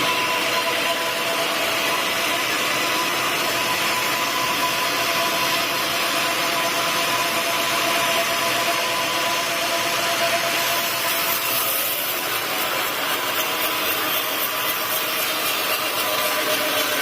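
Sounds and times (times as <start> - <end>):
sawmill saw hissing and whining: 0.0 - 17.0.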